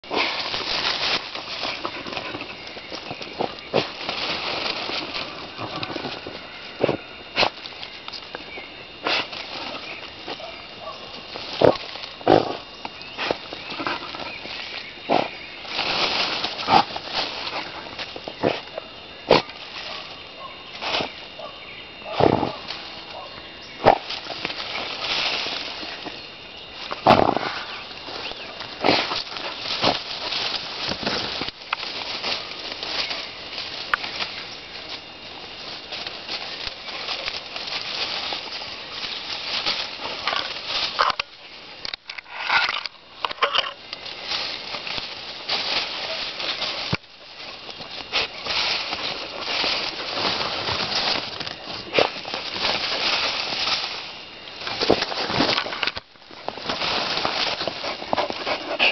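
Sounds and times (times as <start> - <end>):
twigs and leaves rustling: 0.0 - 58.9.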